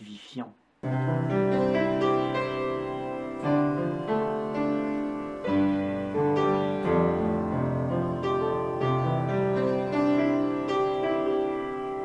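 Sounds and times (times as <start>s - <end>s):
slow piano music: 0.8s - 12.0s.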